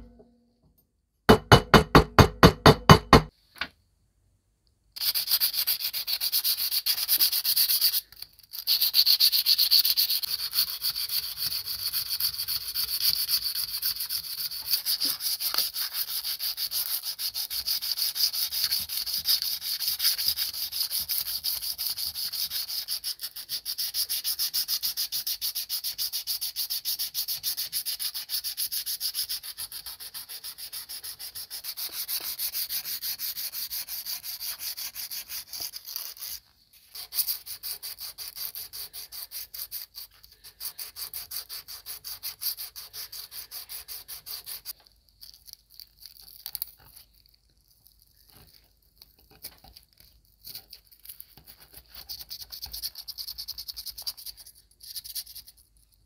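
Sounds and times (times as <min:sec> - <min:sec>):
sandpaper scraping steel wire: 0:05.0 - 0:47.0, 0:48.2 - 0:55.7.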